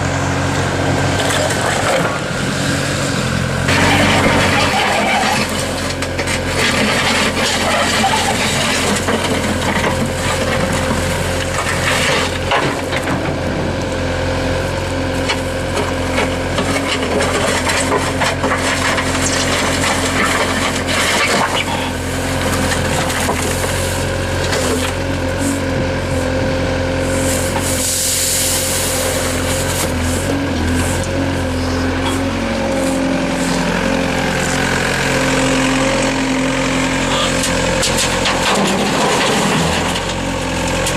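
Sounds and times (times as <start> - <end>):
engine humming: 0.0 - 40.9
scraping and rasping on ground: 1.0 - 13.9, 14.6 - 40.9.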